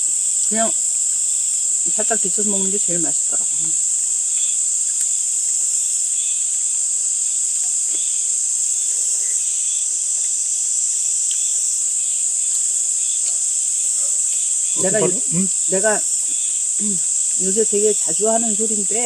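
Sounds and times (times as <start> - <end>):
insects trilling: 0.0 - 19.0
low insect chirps: 0.0 - 19.0.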